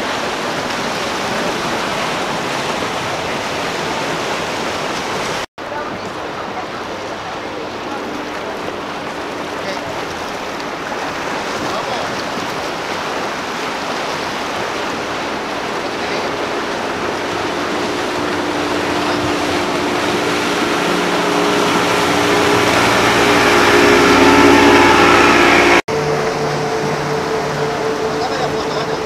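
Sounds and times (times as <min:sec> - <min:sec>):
outboard engine running: 0:00.0 - 0:29.0
rush of water and wind: 0:00.0 - 0:29.0.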